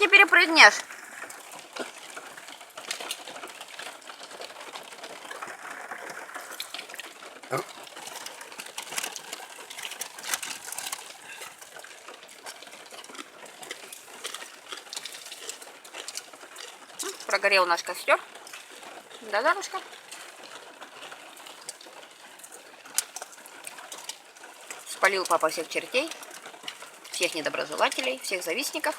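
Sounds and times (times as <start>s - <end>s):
bonfire crackling and popping: 0.0s - 28.9s.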